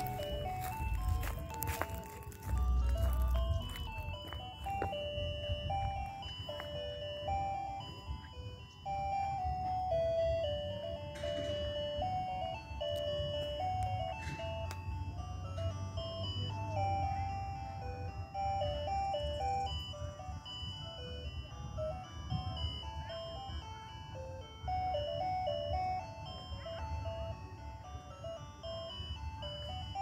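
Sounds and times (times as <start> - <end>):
ice cream truck jingle: 0.0 - 30.0.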